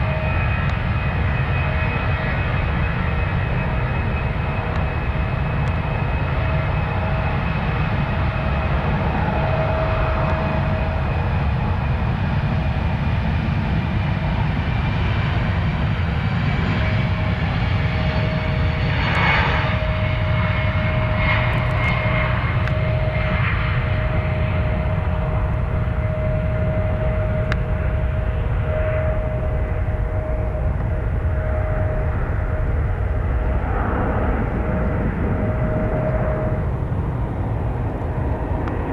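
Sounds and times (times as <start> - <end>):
airliner engines rumbling and whining: 0.0 - 38.9.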